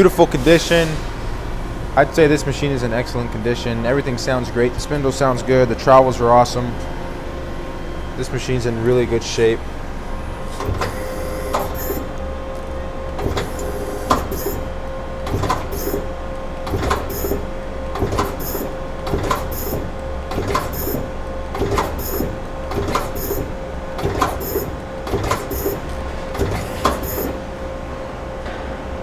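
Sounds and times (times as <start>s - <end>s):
lathe turret clunk: 0.0s - 29.0s
machine hum with whine: 0.0s - 29.0s.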